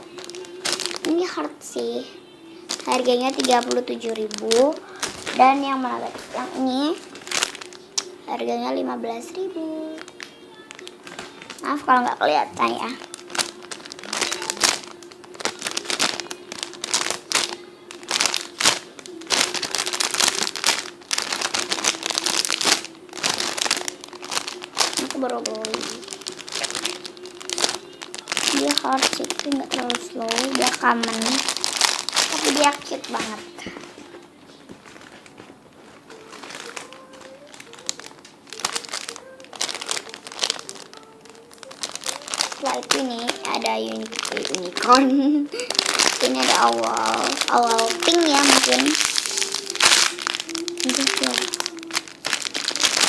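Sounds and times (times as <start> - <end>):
toy wrapping crinkling and rustling: 0.0 - 2.0, 2.6 - 8.2, 9.2 - 53.0.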